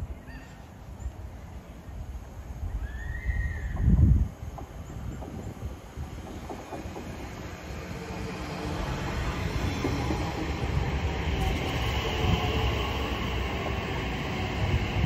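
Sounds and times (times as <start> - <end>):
electric train running past: 1.1 - 15.0.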